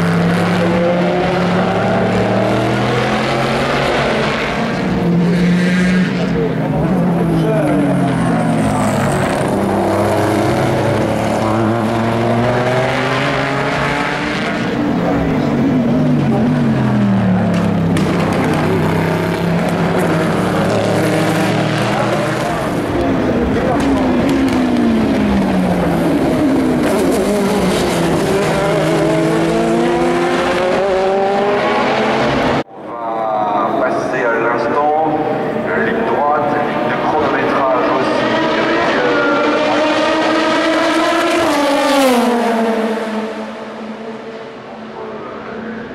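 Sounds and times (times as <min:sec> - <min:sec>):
race car engines passing: 0:00.0 - 0:45.9.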